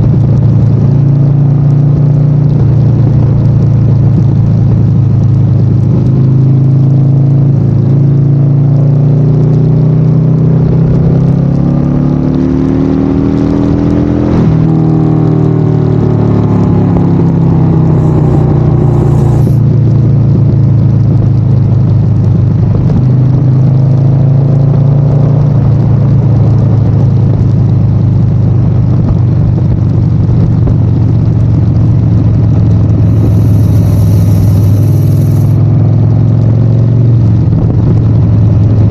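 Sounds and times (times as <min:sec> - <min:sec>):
motorcycle engine running: 0:00.0 - 0:12.0, 0:12.8 - 0:38.9.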